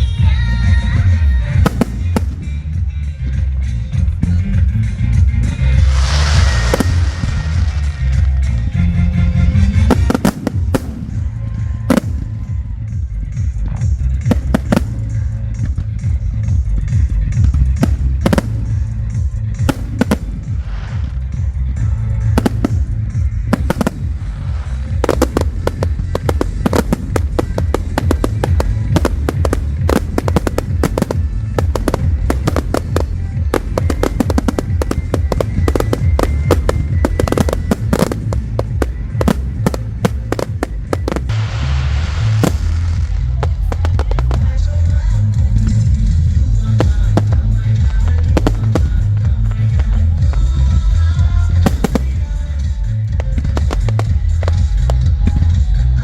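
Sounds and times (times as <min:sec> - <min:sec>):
loud music with heavy bass: 0:00.0 - 0:56.0
fireworks cracking and banging: 0:00.8 - 0:02.9, 0:03.6 - 0:56.0.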